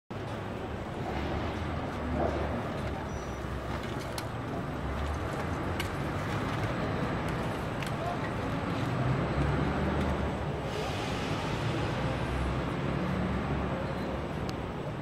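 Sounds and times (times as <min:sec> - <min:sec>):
low rumble of traffic: 0:00.1 - 0:15.0.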